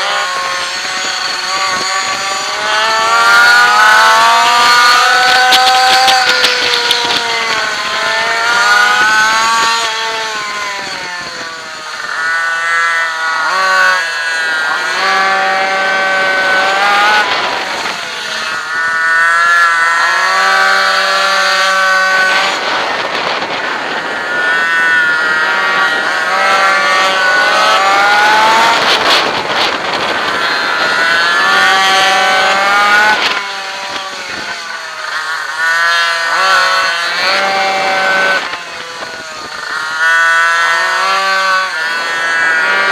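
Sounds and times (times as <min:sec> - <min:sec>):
two-stroke engine revving: 0:00.0 - 0:42.9.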